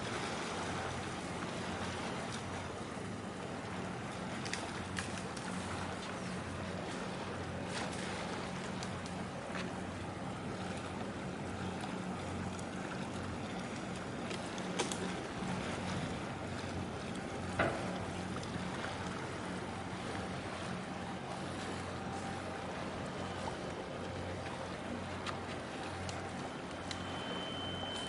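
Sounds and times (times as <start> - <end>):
ship machinery drone: 0.0 - 28.0
wind and sea noise: 0.0 - 28.0.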